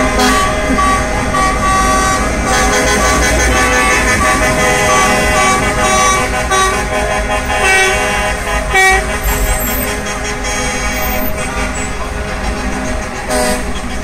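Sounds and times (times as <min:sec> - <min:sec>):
diesel engine rumble: 0:00.0 - 0:14.0
truck horns honking: 0:00.0 - 0:14.0.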